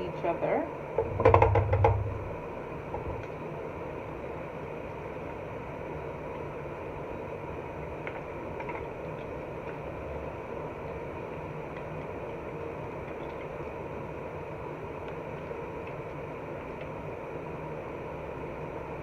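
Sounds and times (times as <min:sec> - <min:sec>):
vent hood fan whooshing: 0:00.0 - 0:19.0
faint ticks of frying: 0:02.4 - 0:19.0.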